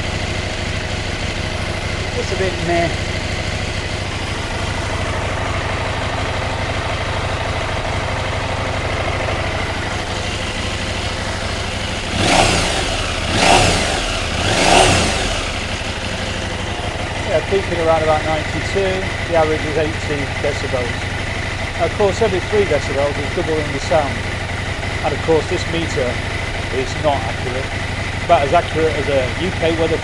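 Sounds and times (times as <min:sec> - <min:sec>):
engine revving: 0:00.0 - 0:08.6, 0:09.2 - 0:30.0
motorcycle engine idling: 0:00.0 - 0:30.0.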